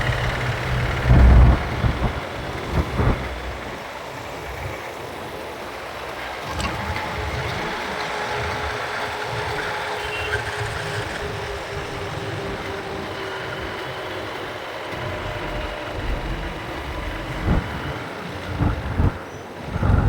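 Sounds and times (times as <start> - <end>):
wind buffeting microphone: 0.0 - 5.5, 6.7 - 20.0
traffic: 0.0 - 20.0.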